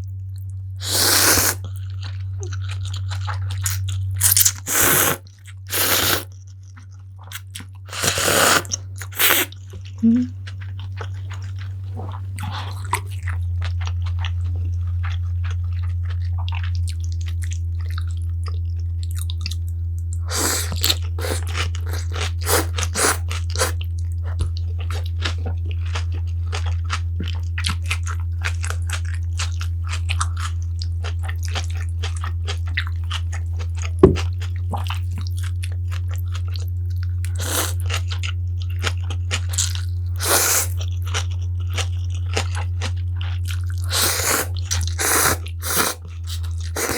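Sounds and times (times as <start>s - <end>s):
chewing and crunching food: 0.0s - 46.9s
steady low hum: 0.0s - 46.9s.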